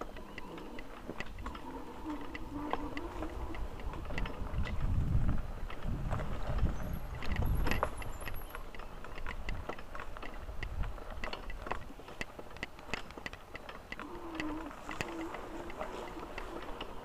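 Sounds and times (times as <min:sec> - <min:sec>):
bicycle rattling and clicking: 0:00.0 - 0:17.0
wind rumbling on microphone: 0:00.0 - 0:17.0.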